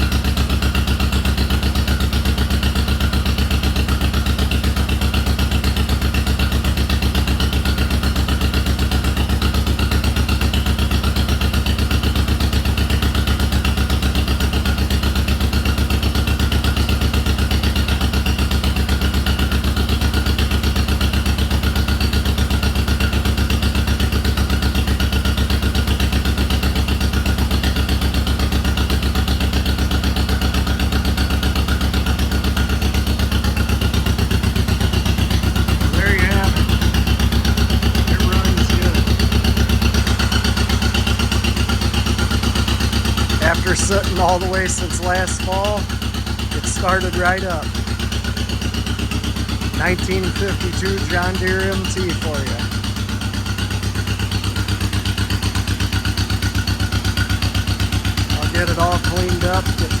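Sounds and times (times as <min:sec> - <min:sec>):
tractor engine running: 0:00.0 - 1:00.0.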